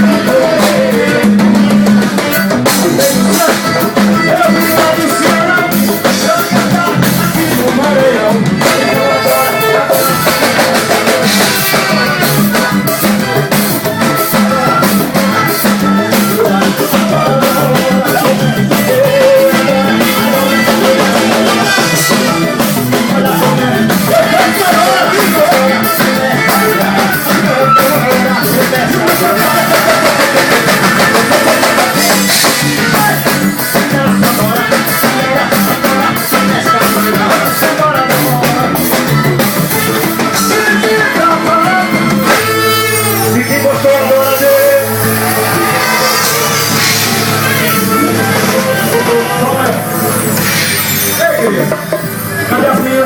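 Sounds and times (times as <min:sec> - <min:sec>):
drums at steady beat: 0:00.0 - 0:53.0
live band playing: 0:00.0 - 0:53.0.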